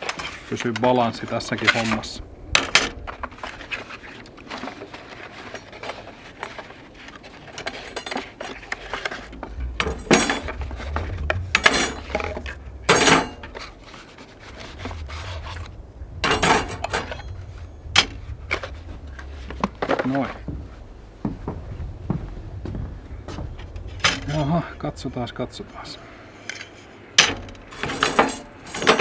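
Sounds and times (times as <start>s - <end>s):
low rumble: 1.1s - 6.6s, 7.2s - 26.4s.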